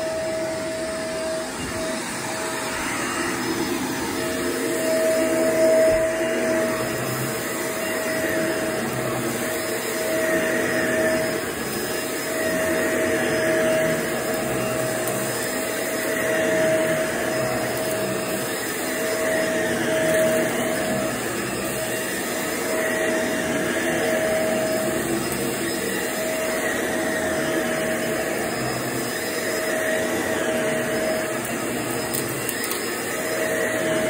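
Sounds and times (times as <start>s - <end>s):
vacuum cleaner running over carpet: 0.0s - 34.0s.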